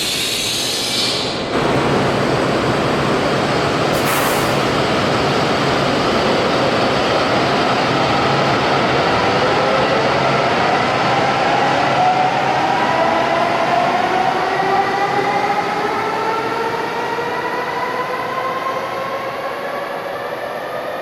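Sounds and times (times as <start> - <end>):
train rolling noise: 0.0 - 21.0.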